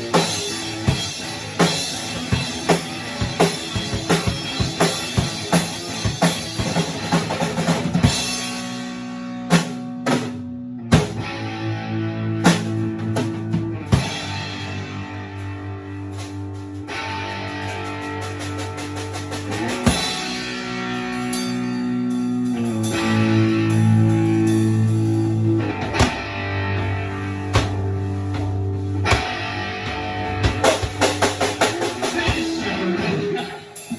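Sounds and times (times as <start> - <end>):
drum kit: 0.0 - 11.6, 12.3 - 33.9
electric guitar chords: 0.0 - 33.9.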